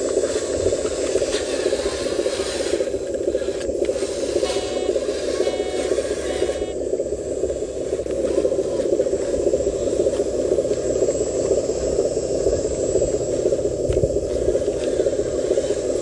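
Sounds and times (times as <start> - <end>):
toy truck electric motor and gears: 0.0 - 16.0.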